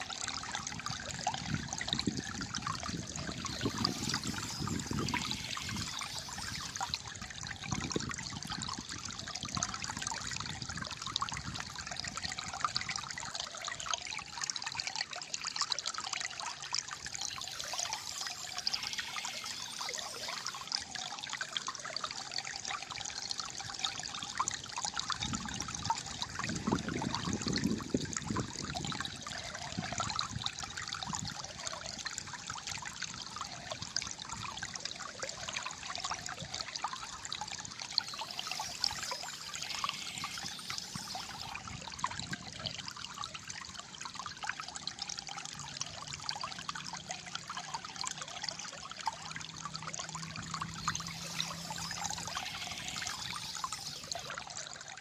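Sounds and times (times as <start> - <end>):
water gurgling and trickling: 0.0 - 55.0.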